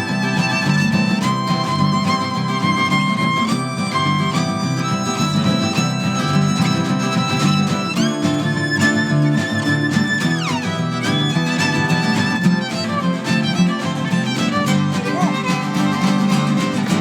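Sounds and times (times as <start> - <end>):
fiddle holding long notes: 0.0 - 17.0
strummed guitar: 0.0 - 17.0.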